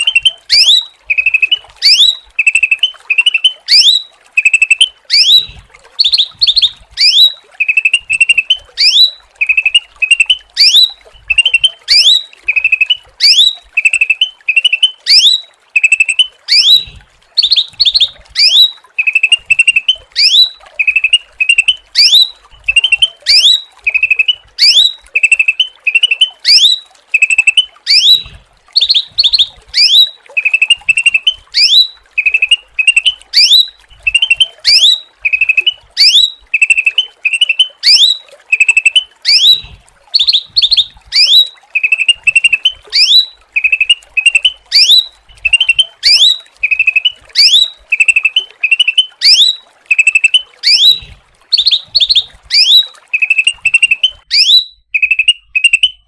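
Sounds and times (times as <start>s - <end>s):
songbird whistling and chirping: 0.0s - 56.0s.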